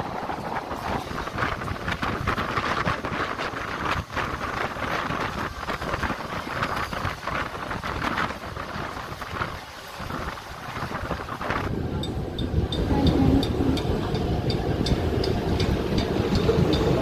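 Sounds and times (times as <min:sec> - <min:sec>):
train rushing and rattling: 0:00.0 - 0:17.0
wind on microphone: 0:00.0 - 0:17.0.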